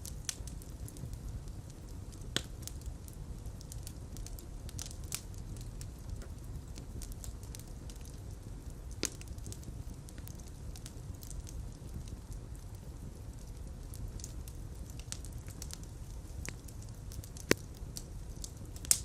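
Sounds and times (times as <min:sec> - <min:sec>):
fireplace fire crackling: 0:00.0 - 0:19.0
low rumble of flames: 0:00.0 - 0:19.0.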